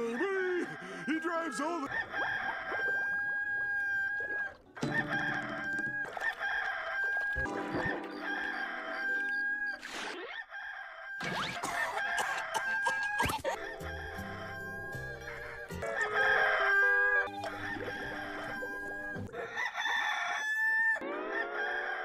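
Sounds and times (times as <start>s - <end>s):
rooster crowing: 0.5s - 9.8s, 10.5s - 22.0s.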